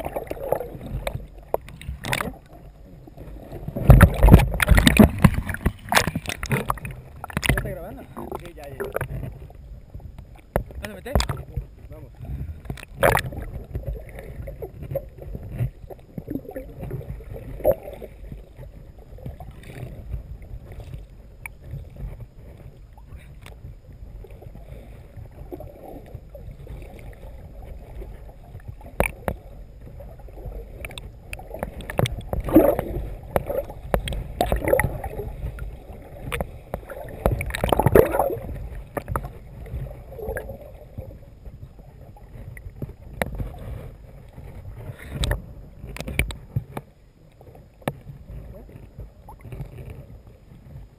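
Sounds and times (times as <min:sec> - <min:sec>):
underwater sloshing and gurgling: 0:00.0 - 0:50.9.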